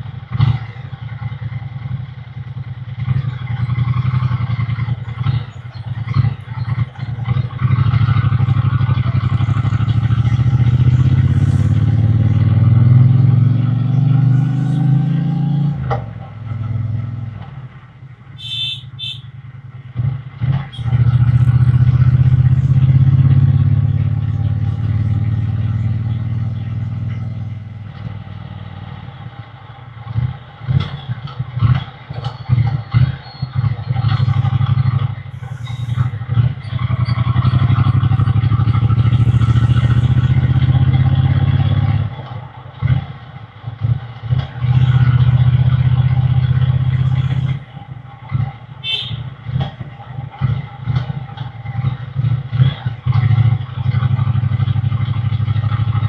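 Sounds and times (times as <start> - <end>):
motorcycle engine exhaust: 0.0 - 28.7, 29.3 - 56.0.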